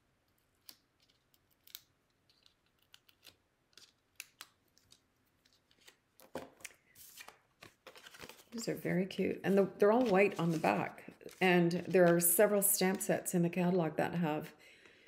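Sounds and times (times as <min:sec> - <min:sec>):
cardstock rustling: 0:00.6 - 0:13.1.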